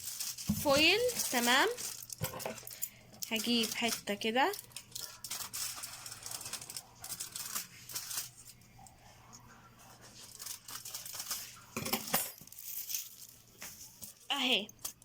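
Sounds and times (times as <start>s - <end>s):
aluminium foil crinkling and tearing: 0.0s - 8.7s, 10.0s - 11.8s, 12.4s - 15.0s.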